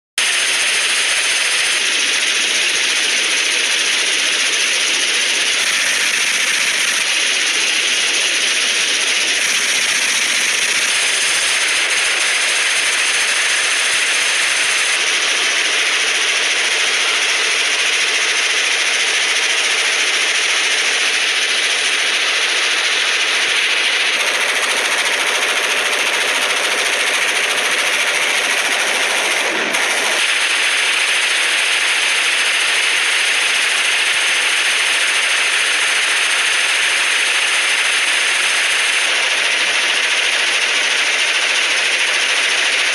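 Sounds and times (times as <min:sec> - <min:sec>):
suppressed machine gun burst: 0:00.3 - 0:39.9.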